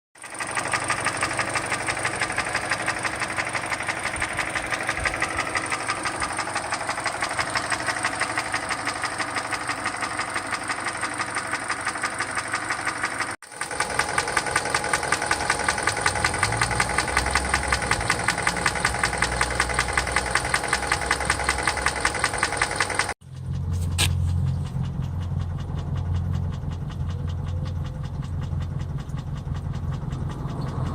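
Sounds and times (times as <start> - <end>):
engine ticking knock: 0.2 - 30.9
low engine rumble: 0.2 - 30.9.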